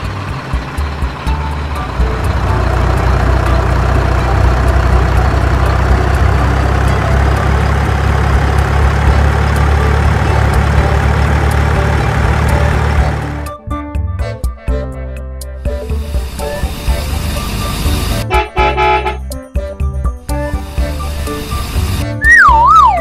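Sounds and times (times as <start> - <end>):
truck engine running: 0.0 - 13.6, 15.6 - 19.3, 20.1 - 23.0.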